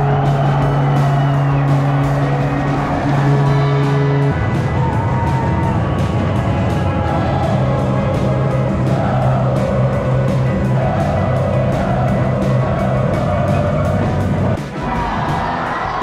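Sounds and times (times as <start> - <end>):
music with a steady beat: 0.0 - 16.0
sustained bass line: 0.0 - 16.0.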